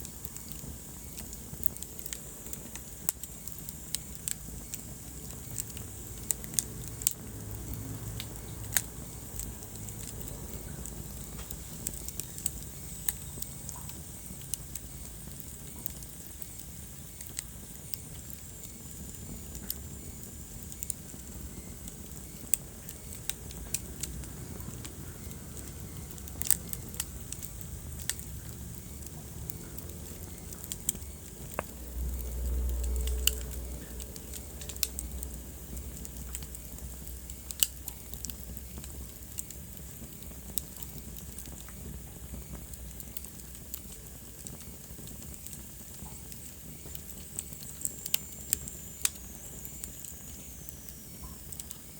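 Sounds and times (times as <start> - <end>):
low fire rumble: 0.0 - 51.9
wood fire crackling: 0.0 - 51.9.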